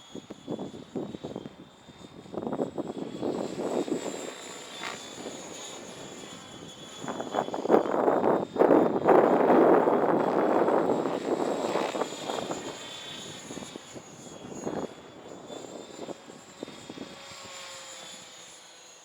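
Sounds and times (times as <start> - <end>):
rc helicopter high whine: 0.0 - 19.0.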